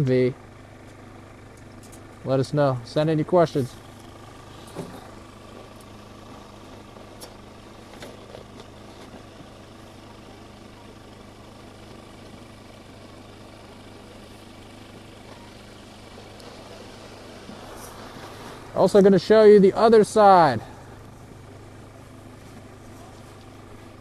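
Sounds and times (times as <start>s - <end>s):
engine idling hum: 0.0s - 24.0s.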